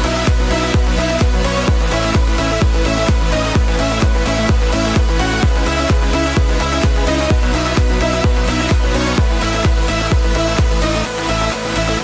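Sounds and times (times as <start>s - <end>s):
kick drum beat: 0.0s - 11.0s
electronic dance music: 0.0s - 12.0s.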